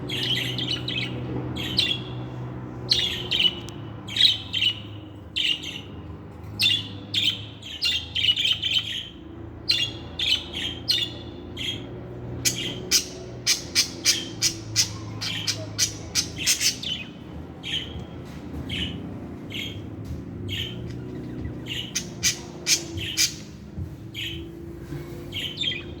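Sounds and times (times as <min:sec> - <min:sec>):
budgerigars chirping: 0:00.0 - 0:06.0, 0:06.6 - 0:19.9, 0:20.5 - 0:24.6, 0:25.3 - 0:26.0.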